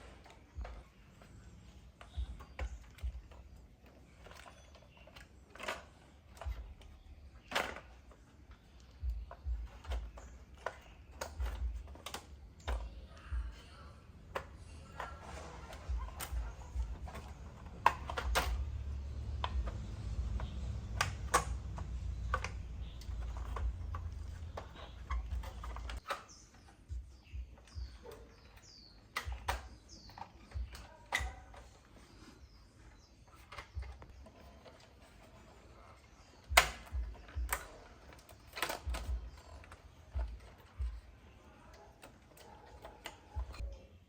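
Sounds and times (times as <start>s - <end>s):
small tools clicking: 0.0s - 43.7s.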